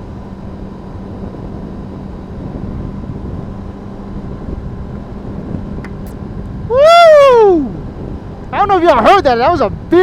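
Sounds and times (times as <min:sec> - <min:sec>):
motorcycle engine cruising: 0:00.0 - 0:10.0
wind noise: 0:00.0 - 0:10.0.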